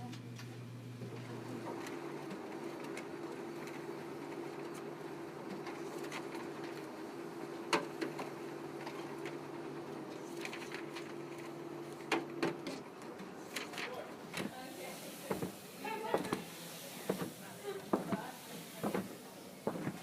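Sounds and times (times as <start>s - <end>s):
elevator mechanical hum: 0.0s - 20.0s.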